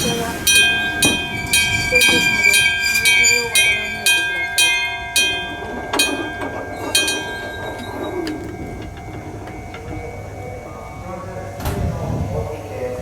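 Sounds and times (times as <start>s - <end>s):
level crossing warning bell: 0.0s - 13.0s
train rumble: 0.0s - 13.0s.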